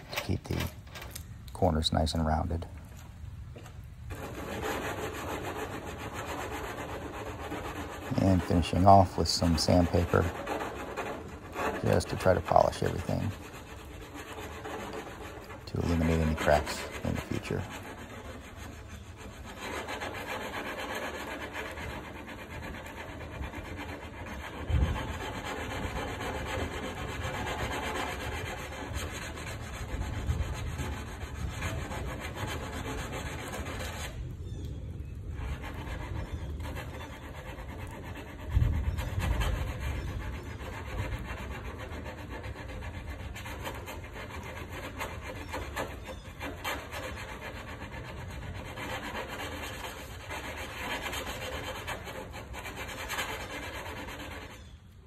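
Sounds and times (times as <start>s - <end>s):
sandpaper rubbing on metal: 4.1s - 34.5s, 35.2s - 55.0s.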